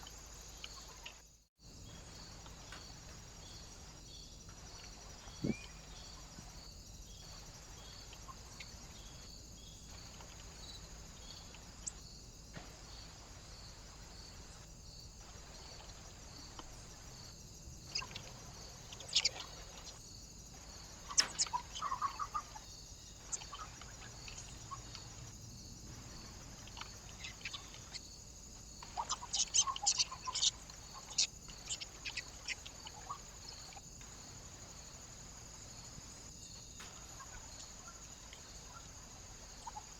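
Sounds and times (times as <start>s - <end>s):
steady high hiss: 0.0s - 39.9s
small birds calling: 1.9s - 12.0s, 15.3s - 39.9s.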